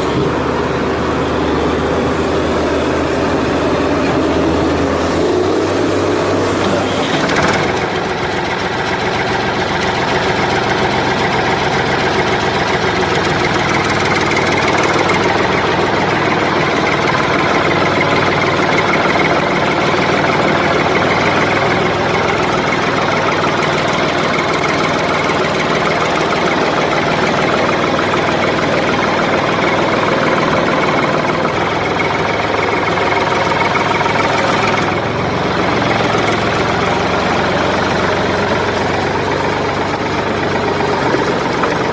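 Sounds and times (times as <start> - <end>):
machine running steadily: 0.0 - 41.9.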